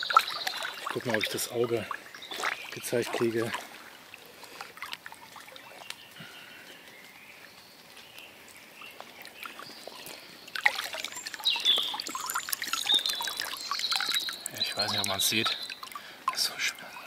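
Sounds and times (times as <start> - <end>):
birds singing: 0.0 - 17.0
water splashing and trickling: 0.0 - 17.0.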